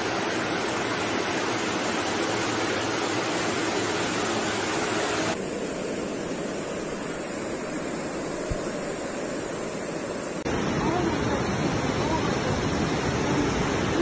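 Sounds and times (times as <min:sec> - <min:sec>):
floodwater rushing: 0:00.0 - 0:05.4, 0:06.0 - 0:14.0.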